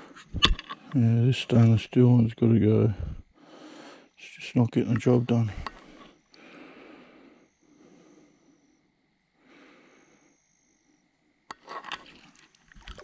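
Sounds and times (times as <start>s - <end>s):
high insect trill: 0.0s - 13.0s.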